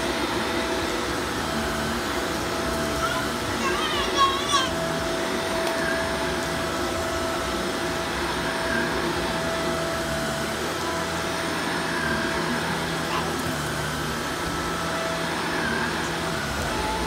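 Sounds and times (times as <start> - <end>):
upright vacuum cleaner running: 0.0 - 17.0.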